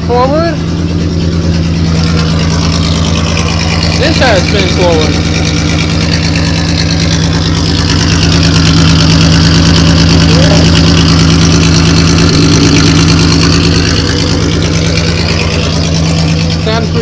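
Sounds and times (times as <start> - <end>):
rear wheels spinning: 0.0 - 17.0
truck engine running: 0.0 - 17.0.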